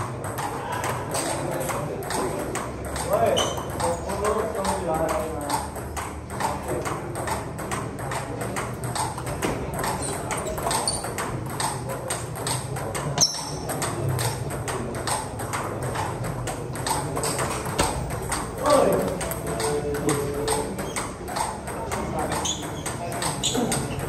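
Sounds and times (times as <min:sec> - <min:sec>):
table tennis ball clicking: 0:00.0 - 0:24.0.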